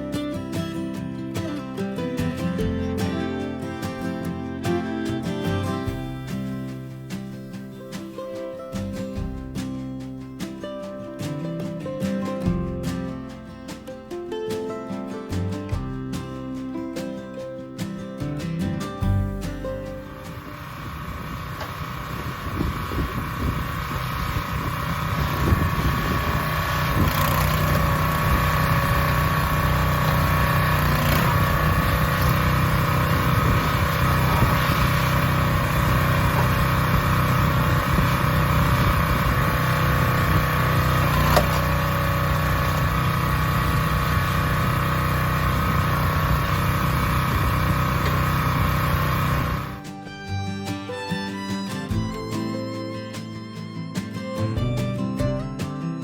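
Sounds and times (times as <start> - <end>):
gas engine running: 0.0 - 11.7, 19.0 - 55.7.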